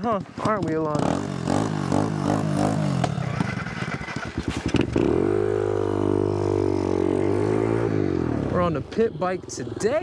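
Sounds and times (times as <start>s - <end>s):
small motorbike engine running: 0.4s - 8.8s.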